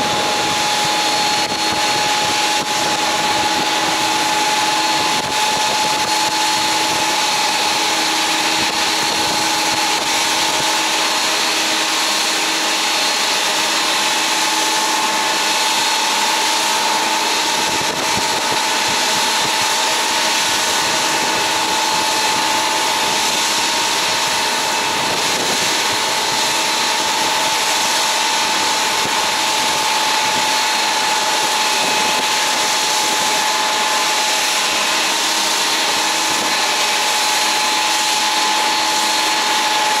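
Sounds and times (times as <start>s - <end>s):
jet engines running: 0.0s - 40.0s.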